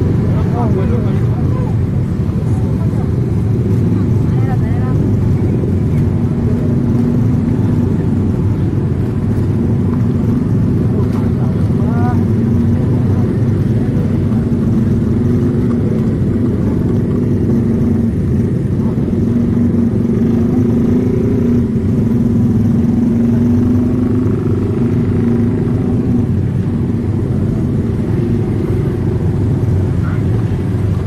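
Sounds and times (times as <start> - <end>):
road rumble: 0.0 - 31.0
vehicle engine running: 0.0 - 31.0.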